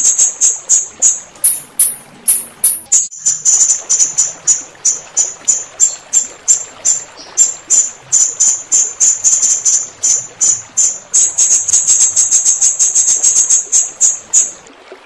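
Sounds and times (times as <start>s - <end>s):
running water hiss: 0.0s - 15.0s.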